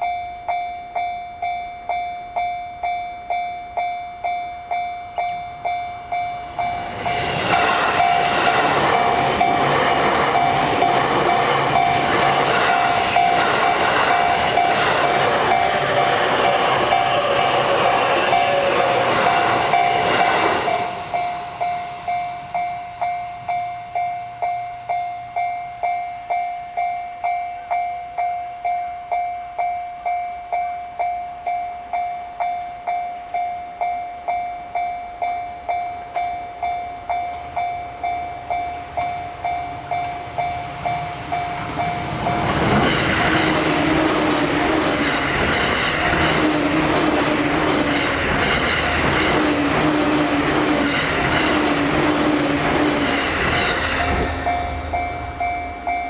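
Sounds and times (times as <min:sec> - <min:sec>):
railroad crossing warning bell: 0:00.0 - 0:56.0
train wheels on track: 0:03.2 - 0:29.3, 0:30.0 - 0:56.0.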